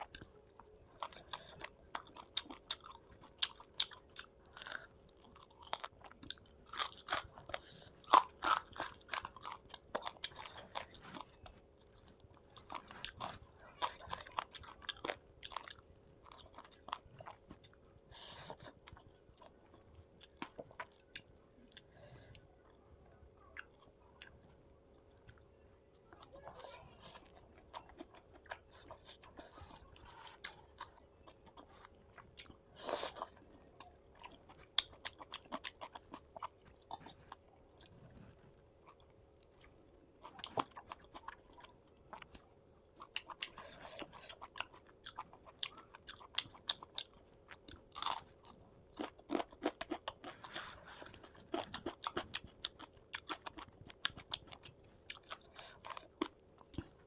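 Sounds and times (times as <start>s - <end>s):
wet chewing and crunching: 0.0s - 22.4s, 23.5s - 57.0s.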